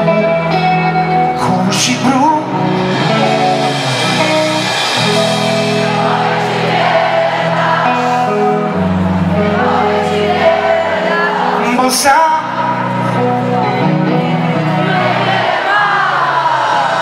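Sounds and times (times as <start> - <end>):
live rock band through pa: 0.0 - 17.0
person singing: 0.2 - 17.0.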